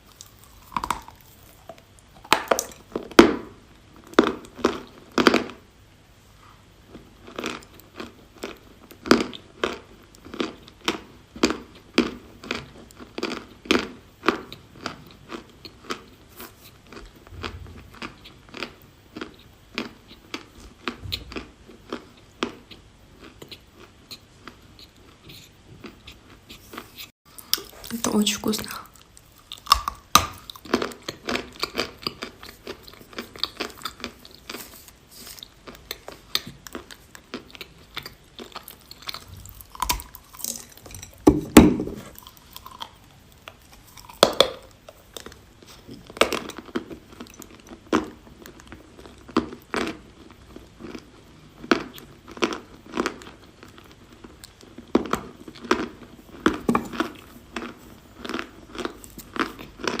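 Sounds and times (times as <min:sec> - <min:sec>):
chewing and crunching chalk: 0:00.0 - 0:03.2, 0:06.9 - 0:28.0, 0:28.6 - 1:00.0.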